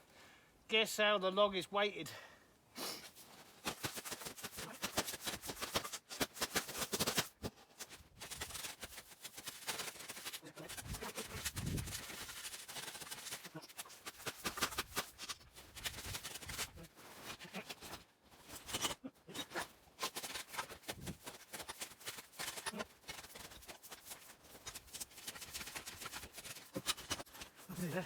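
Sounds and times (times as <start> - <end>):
crunching and scraping in snow: 2.9 - 28.0.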